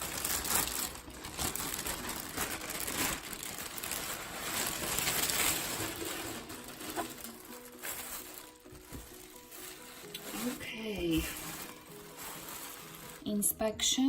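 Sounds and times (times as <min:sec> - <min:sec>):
handling sounds: 0:00.0 - 0:13.4
packaging crinkling and rustling: 0:00.0 - 0:13.6.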